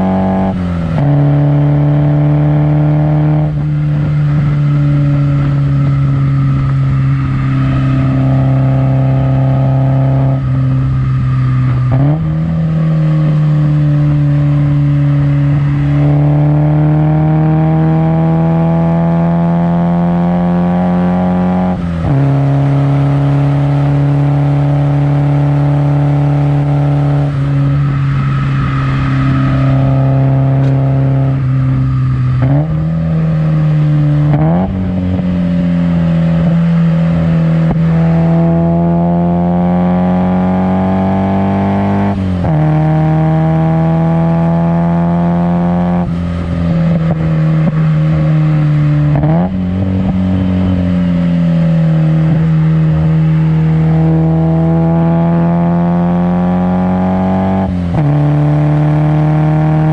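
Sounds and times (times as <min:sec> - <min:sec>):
car engine droning while driving: 0:00.0 - 0:59.9.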